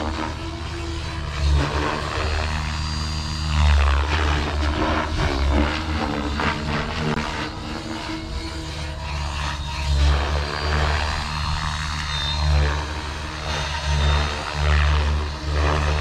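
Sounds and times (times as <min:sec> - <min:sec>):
model helicopter rotors buzzing: 0:00.0 - 0:16.0.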